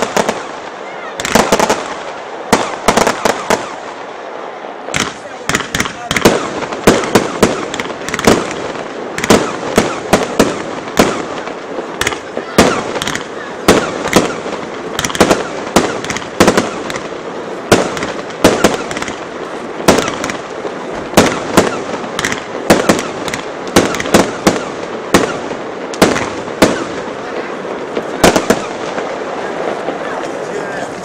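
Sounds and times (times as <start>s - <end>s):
fireworks bursting with sharp bangs: 0.0s - 31.0s
steady background noise: 0.0s - 31.0s.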